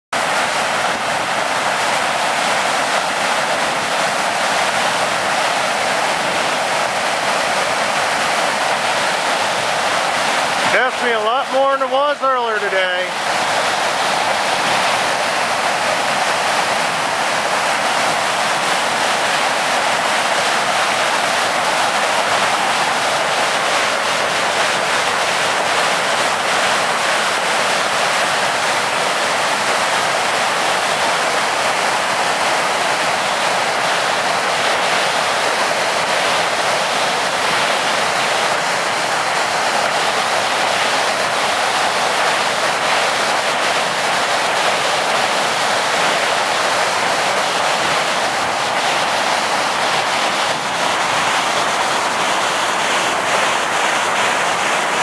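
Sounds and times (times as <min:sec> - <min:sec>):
water rushing over a dam: 0:00.2 - 0:55.0.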